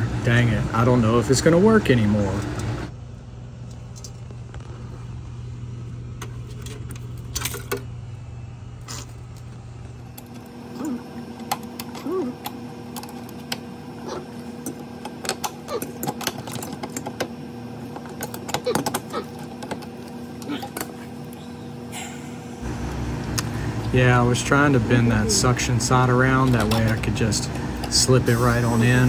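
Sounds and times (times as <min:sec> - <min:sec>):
compressor low hum: 0:00.0 - 0:29.0.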